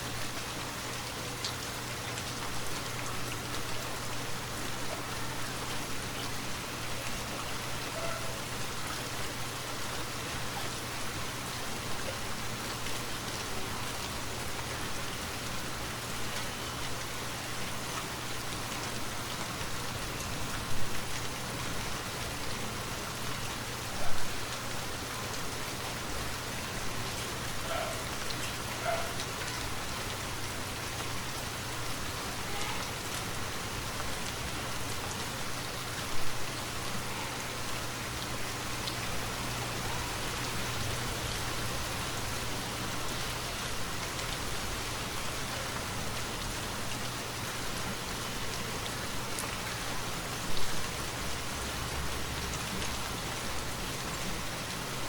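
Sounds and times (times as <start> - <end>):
rainfall in a forest: 0.0 - 55.0.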